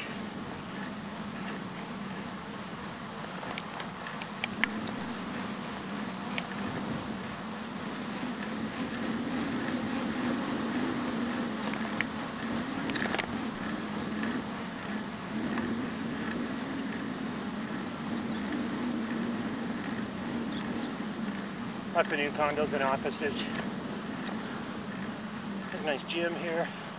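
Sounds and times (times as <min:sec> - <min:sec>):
bicycle rolling on pavement: 0:00.0 - 0:26.9.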